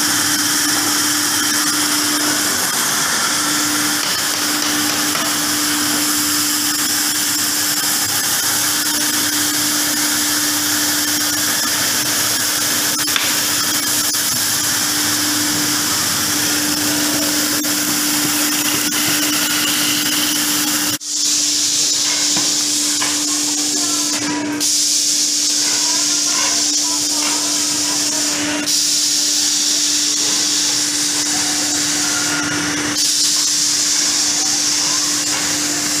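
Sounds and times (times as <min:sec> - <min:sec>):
woodworking machine hum and hiss: 0:00.0 - 0:36.0.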